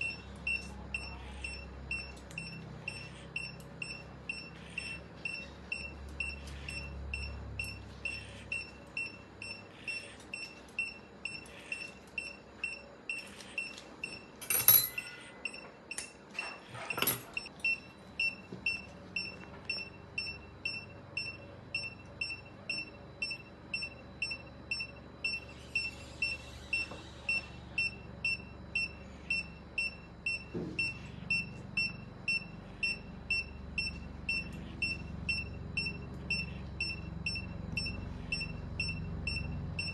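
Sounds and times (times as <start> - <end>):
patient monitor beeping: 0.0 - 39.9.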